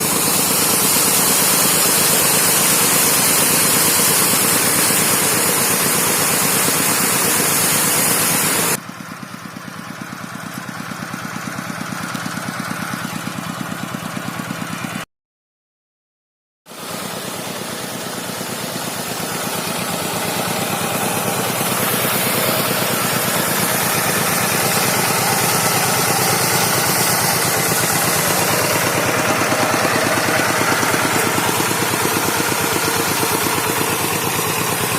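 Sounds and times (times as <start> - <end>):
tractor engine chugging: 0.0 - 15.0, 16.7 - 34.9.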